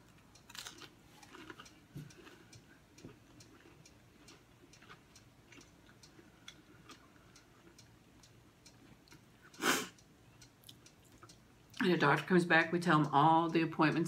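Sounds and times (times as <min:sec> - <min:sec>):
faint regular ticking: 0:00.0 - 0:14.0.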